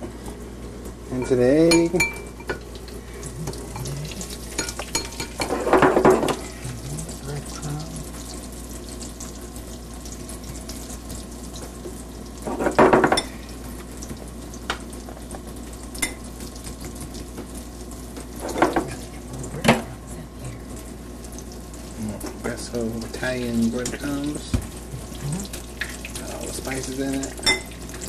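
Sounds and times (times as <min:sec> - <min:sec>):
slices frying in oil: 0:02.6 - 0:28.0.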